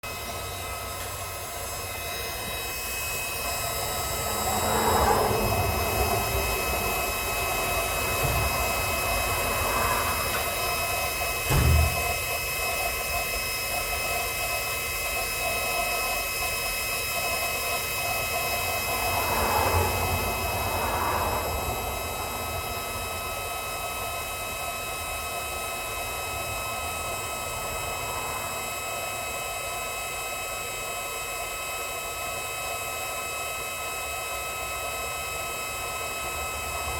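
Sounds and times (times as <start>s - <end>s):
heating tool hissing and whining: 0.0s - 36.9s.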